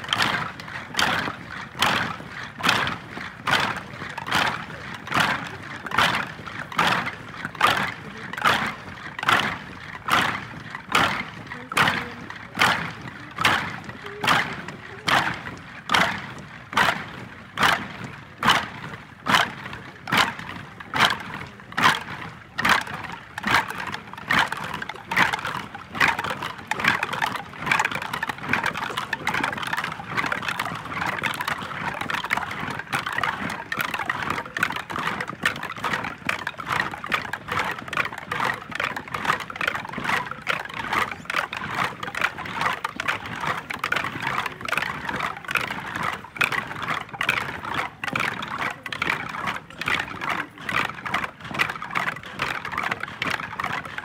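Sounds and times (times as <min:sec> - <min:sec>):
boots marching in step: 0:00.0 - 0:54.0.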